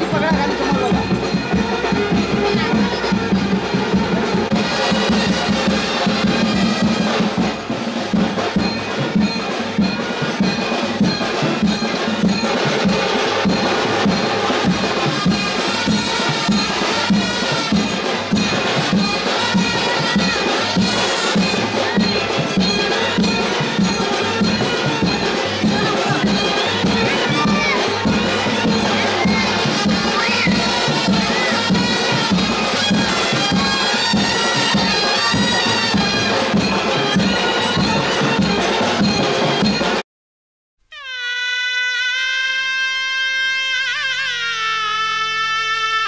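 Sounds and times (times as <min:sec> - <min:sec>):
music with steady drum beat: 0:00.0 - 0:40.0.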